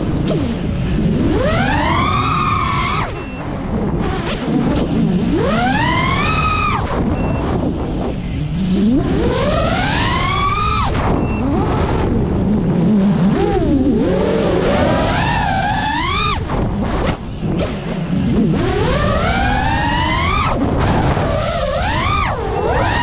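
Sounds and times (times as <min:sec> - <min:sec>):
rush of wind: 0:00.0 - 0:23.0
quadcopter motors whining: 0:01.1 - 0:03.6, 0:04.2 - 0:07.7, 0:08.7 - 0:12.3, 0:12.9 - 0:23.0.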